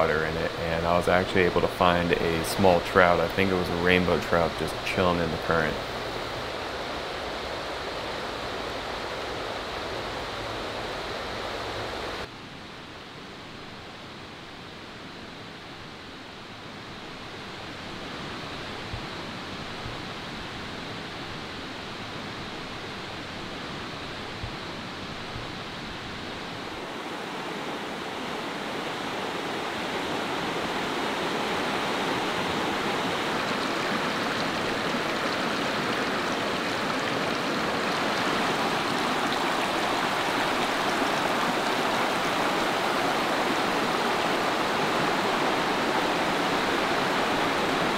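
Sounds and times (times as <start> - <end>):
river rushing over rocks: 0.0 - 12.3, 16.9 - 47.9.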